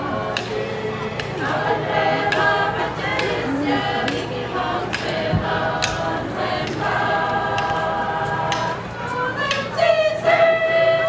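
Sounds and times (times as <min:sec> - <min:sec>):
group singing in harmony: 0:00.0 - 0:11.0.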